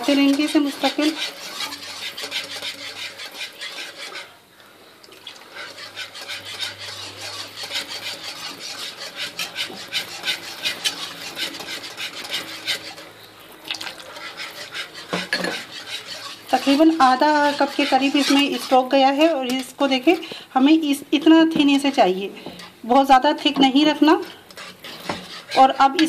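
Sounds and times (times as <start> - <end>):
whisk scraping frying pan: 0.0 - 4.4, 5.1 - 26.0.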